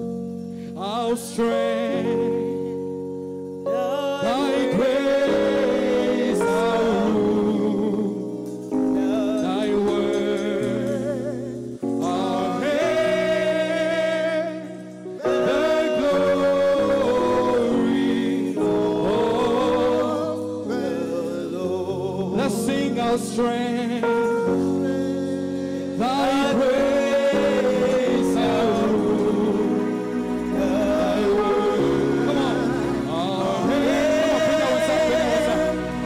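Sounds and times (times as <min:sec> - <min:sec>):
band holding long chords: 0:00.0 - 0:36.0
gospel singers vocal runs: 0:00.5 - 0:03.0, 0:03.6 - 0:36.0.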